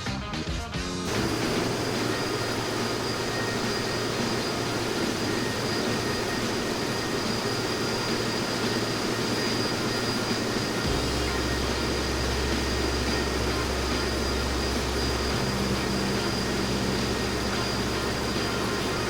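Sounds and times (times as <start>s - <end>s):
aircraft engine and airflow rush: 1.1s - 19.0s
thin high whine: 1.1s - 19.0s.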